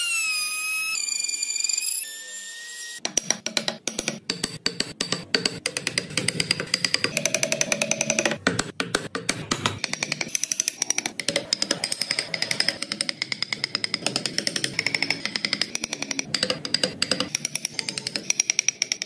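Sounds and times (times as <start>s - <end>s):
chisel tapping into wood: 3.0s - 19.0s.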